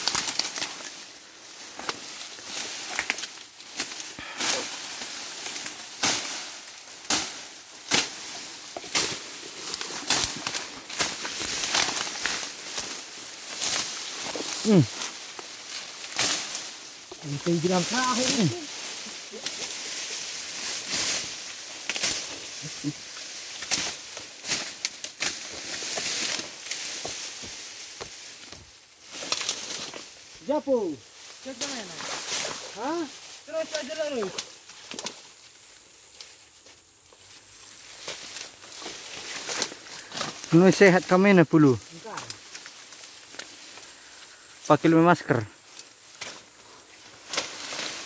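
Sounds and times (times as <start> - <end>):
sickle swishing through grass: 0.0 - 44.6, 45.6 - 48.0.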